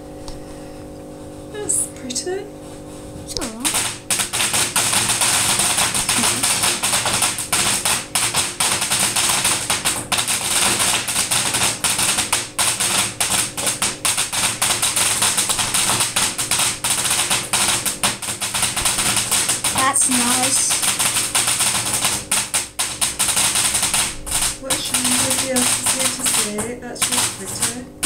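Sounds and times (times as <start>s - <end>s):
firework crackling: 3.3s - 28.0s.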